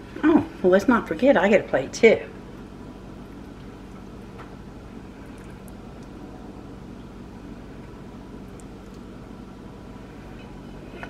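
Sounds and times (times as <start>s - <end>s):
low machine hum with hiss: 0.0s - 11.0s.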